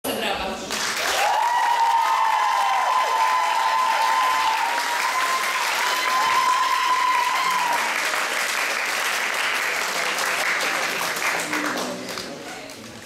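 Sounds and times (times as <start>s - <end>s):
audience applauding: 0.7s - 13.0s.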